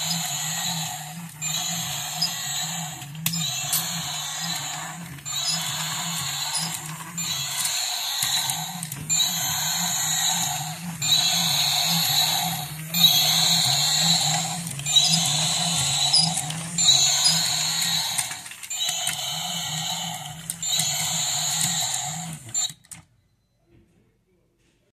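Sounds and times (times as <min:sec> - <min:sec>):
toy electronic sound effects: 0:00.0 - 0:22.9.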